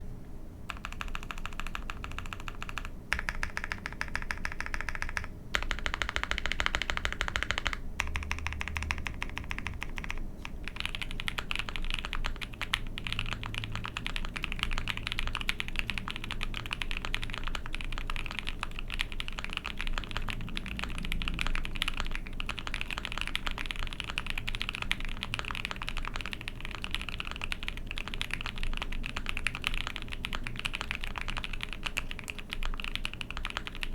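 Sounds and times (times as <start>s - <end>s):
fast mechanical keyboard typing: 0.7s - 33.9s.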